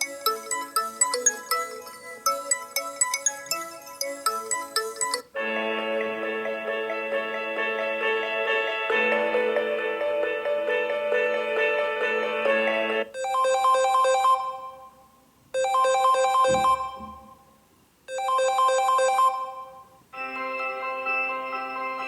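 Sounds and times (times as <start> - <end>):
phone ringtone melody: 0.0 - 15.0, 15.6 - 17.3, 18.1 - 22.0
ringtone of held notes: 0.0 - 17.3, 18.1 - 22.0.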